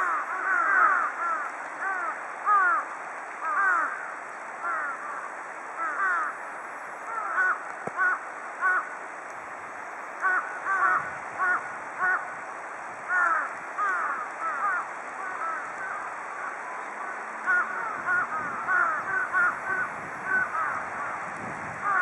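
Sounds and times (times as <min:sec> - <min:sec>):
crows cawing: 0:00.0 - 0:06.4, 0:07.1 - 0:09.0, 0:10.2 - 0:12.4, 0:13.1 - 0:22.0.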